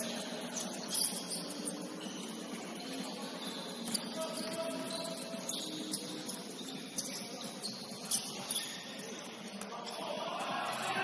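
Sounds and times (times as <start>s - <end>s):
sneakers squeaking on gym floor: 0.0s - 11.0s
sports hall noise: 0.0s - 11.0s.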